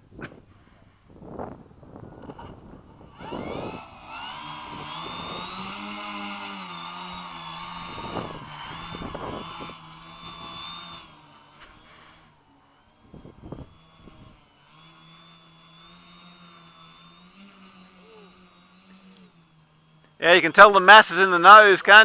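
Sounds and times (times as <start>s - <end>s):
propeller engines humming: 0.0s - 22.0s.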